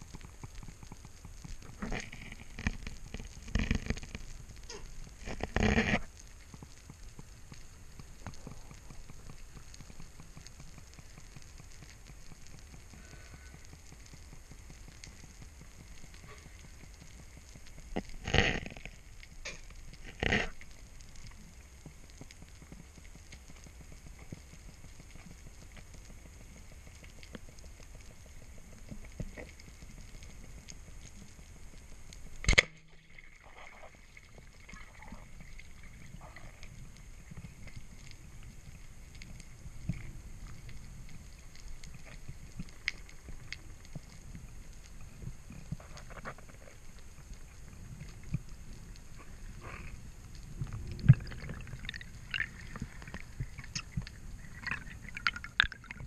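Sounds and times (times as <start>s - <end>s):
faint clicks underwater: 0.0s - 56.0s
underwater water wash: 0.0s - 56.0s.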